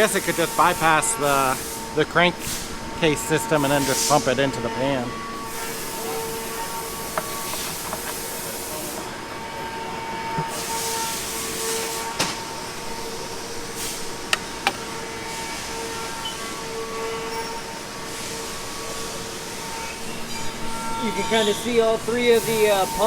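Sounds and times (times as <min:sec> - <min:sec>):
constant hum: 0:00.0 - 0:23.0.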